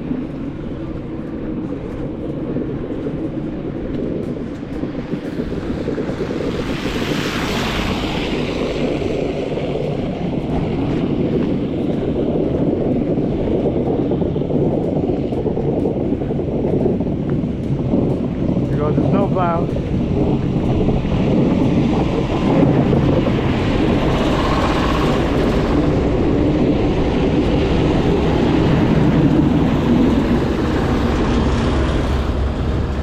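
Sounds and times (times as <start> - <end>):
snowplow truck rumble: 3.5 - 33.0.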